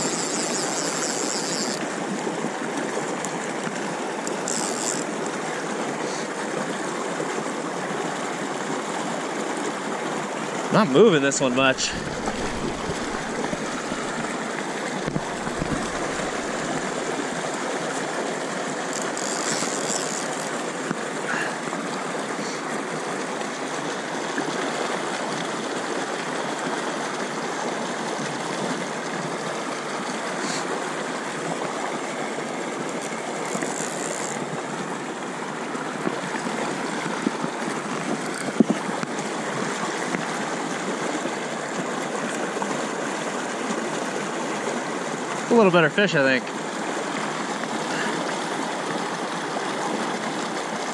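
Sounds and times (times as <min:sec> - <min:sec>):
river rushing over boulders: 0:00.0 - 0:50.9.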